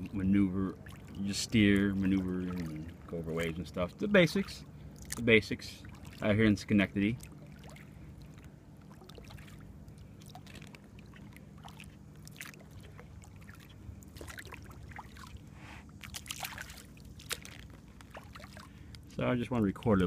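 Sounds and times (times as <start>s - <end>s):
small splashes and clicks: 0.0s - 20.0s
water lapping and dripping: 0.0s - 20.0s.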